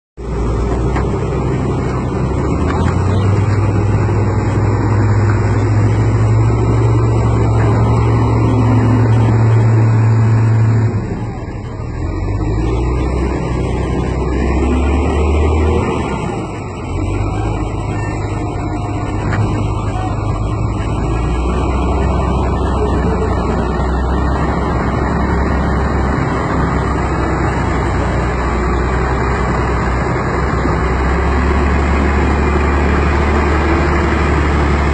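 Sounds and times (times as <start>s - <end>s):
heavy diesel engines under load: 0.2s - 34.9s.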